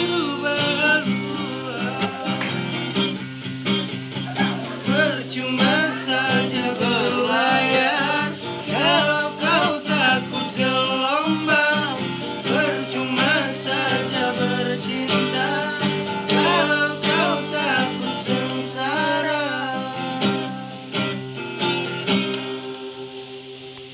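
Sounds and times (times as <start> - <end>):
person singing: 0.0 - 3.2, 4.2 - 21.3
acoustic guitar strummed and picked: 0.0 - 23.9.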